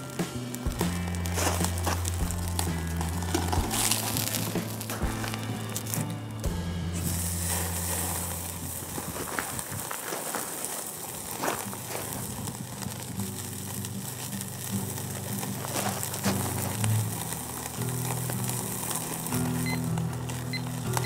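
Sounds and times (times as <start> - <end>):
fat popping on hot coals: 0.0 - 21.0
steak sizzling on a grill: 0.0 - 21.0.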